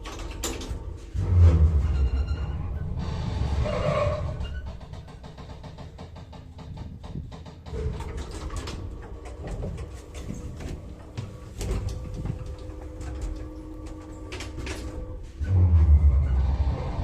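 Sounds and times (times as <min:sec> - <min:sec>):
winch motor loud low drone: 0:00.0 - 0:04.8, 0:07.7 - 0:17.0.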